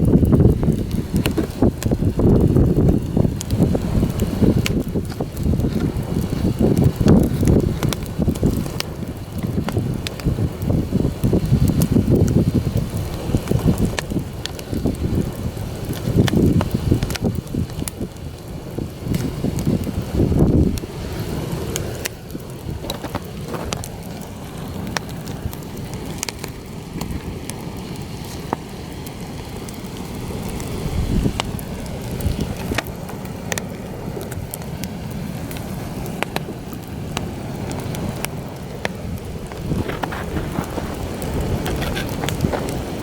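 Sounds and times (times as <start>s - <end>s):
campfire crackling: 0.0s - 43.0s
wind buffeting microphone: 0.0s - 43.0s.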